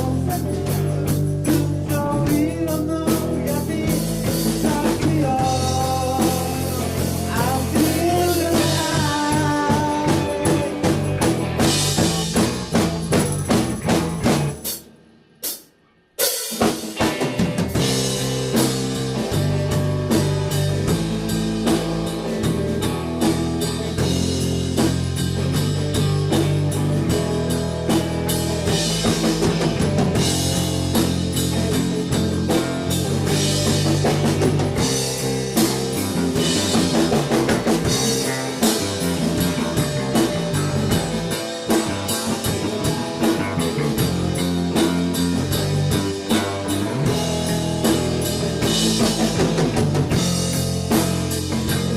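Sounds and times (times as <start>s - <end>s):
bass guitar: 0.0s - 15.3s, 16.2s - 51.9s
drum kit: 0.0s - 51.9s
rock band playing: 0.0s - 51.9s.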